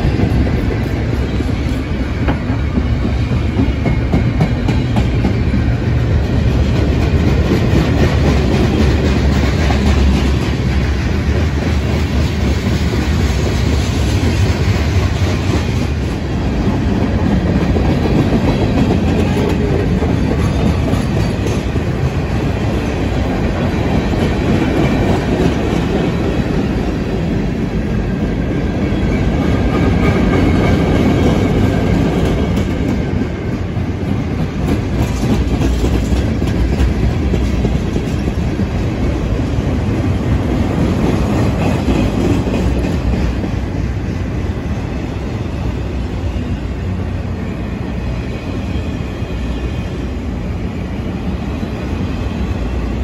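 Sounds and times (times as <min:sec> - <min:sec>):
freight train cars rolling past: 0:00.0 - 0:53.0.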